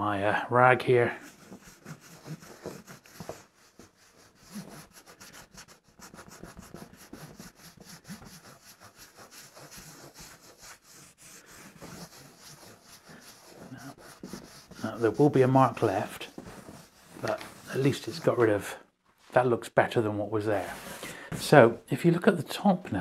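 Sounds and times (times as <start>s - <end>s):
rag rubbing cardboard: 1.0s - 18.8s, 20.5s - 21.7s.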